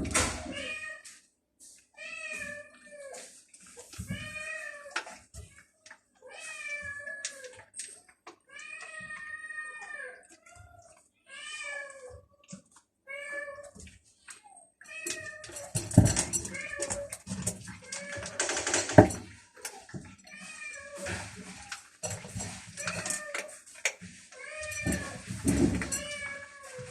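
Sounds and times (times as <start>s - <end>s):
cats meowing: 0.0s - 1.2s, 2.0s - 26.9s.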